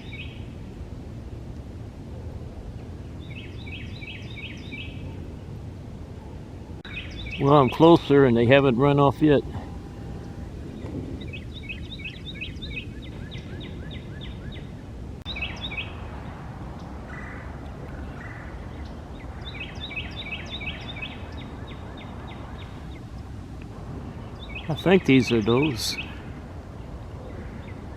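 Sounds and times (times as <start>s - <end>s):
songbird singing trills: 0.0s - 0.6s, 3.0s - 5.3s, 6.8s - 23.4s, 24.1s - 27.9s
low outdoor rumble: 0.0s - 27.9s.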